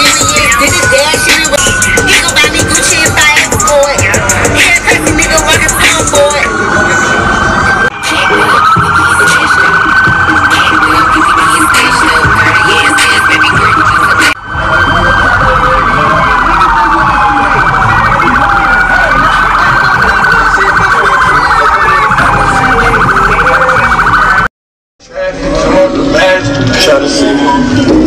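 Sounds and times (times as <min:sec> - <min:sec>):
police siren: 0:00.0 - 0:24.5, 0:25.4 - 0:28.0.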